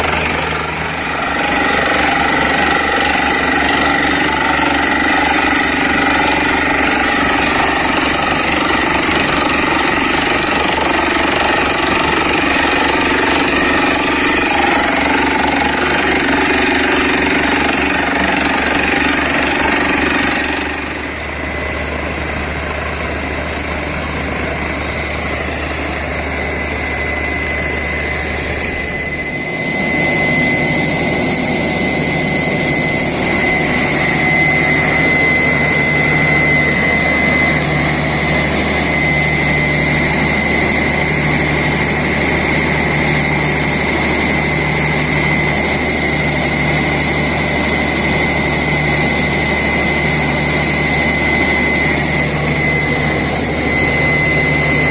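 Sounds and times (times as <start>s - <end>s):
drilling rig machine din: 0.0s - 54.9s.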